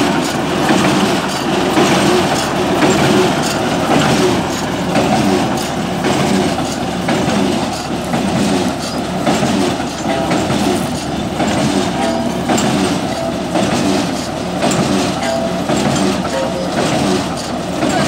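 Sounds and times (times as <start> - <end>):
drilling rig engine running: 0.0 - 18.0
machinery rattling and clanking: 0.0 - 18.0.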